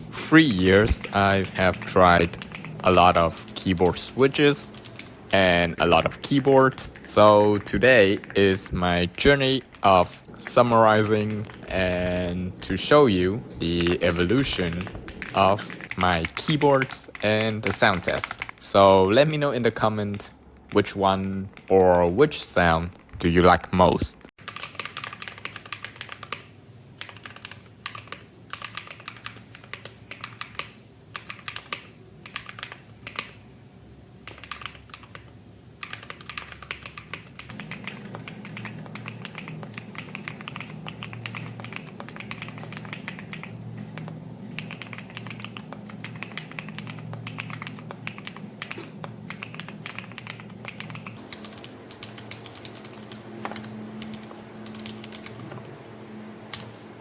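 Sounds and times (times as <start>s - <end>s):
steady low hum: 0.0s - 24.3s, 31.9s - 57.0s
mechanical keyboard typing: 0.6s - 18.6s, 19.2s - 33.4s, 34.2s - 55.6s.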